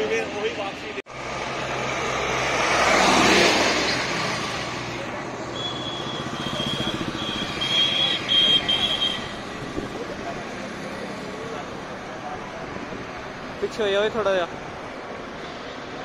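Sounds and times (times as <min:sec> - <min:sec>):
tractor engines passing: 0:00.0 - 0:16.0.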